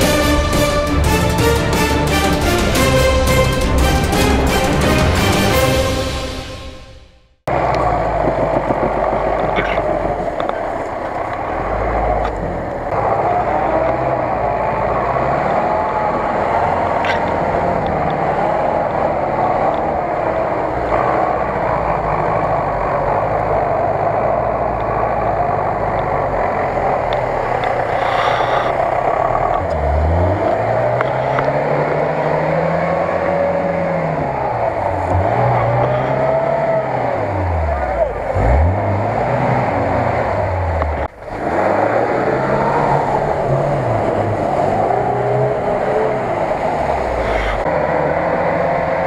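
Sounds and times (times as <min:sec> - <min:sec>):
engine revving: 0:00.0 - 0:49.0
truck engine running under load: 0:07.5 - 0:49.0.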